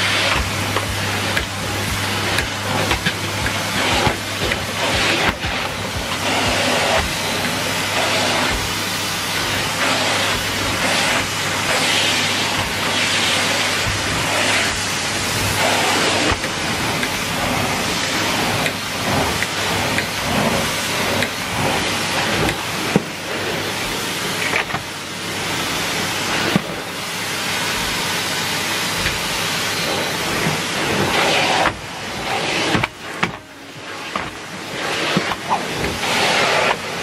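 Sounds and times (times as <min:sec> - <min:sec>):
vacuum cleaner on carpet: 0:00.0 - 0:37.0.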